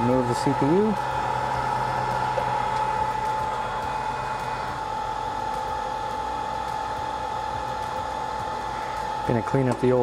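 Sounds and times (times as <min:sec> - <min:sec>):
hot air blower rushing whine: 0:00.0 - 0:10.0
low hum: 0:00.0 - 0:10.0.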